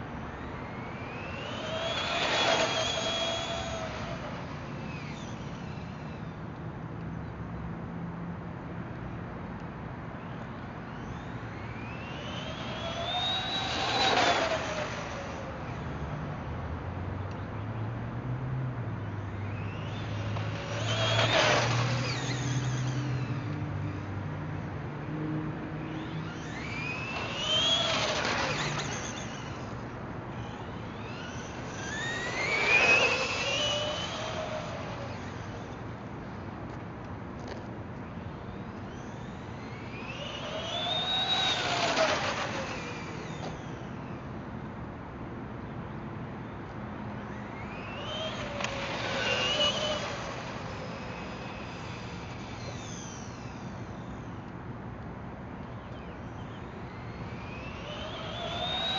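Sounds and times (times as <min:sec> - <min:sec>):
rc truck motor whining: 0:00.0 - 0:07.0, 0:10.2 - 0:16.5, 0:18.9 - 0:44.8, 0:46.4 - 0:58.9.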